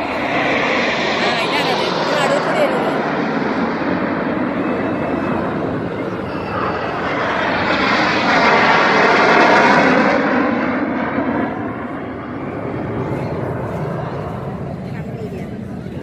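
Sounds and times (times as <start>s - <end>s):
jets flying past overhead: 0.0s - 16.0s.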